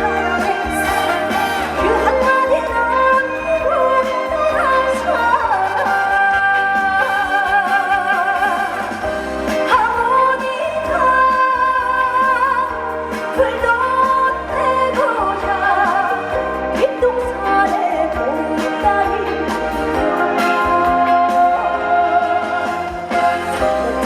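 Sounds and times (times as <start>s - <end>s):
musical accompaniment: 0.0s - 24.0s
woman singing with vibrato: 0.0s - 24.0s.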